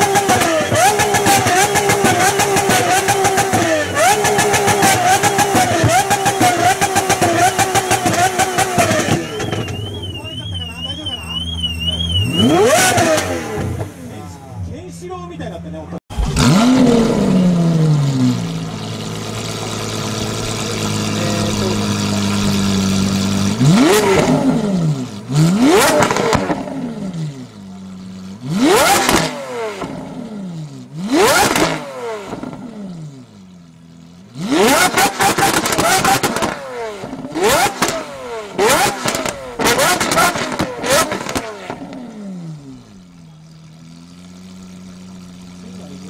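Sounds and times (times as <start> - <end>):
car engine idling: 0.0 - 46.0
engine throttle blips: 0.0 - 46.0.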